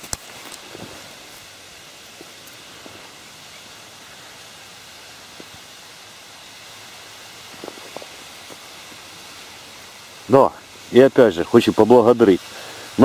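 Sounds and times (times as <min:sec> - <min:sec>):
reeds rustling: 0:00.0 - 0:13.0
wind: 0:00.0 - 0:13.0.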